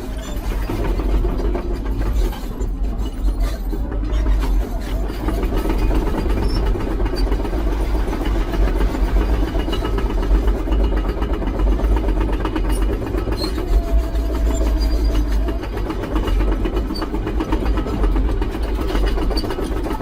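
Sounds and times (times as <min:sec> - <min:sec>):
construction machine engine running: 0:00.0 - 0:20.0
rattling clatter: 0:00.0 - 0:20.0.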